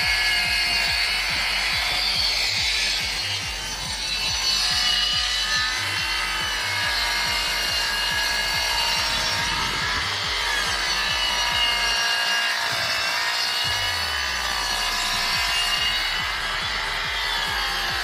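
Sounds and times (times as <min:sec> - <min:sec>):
power saw cutting wood: 0:00.0 - 0:18.0.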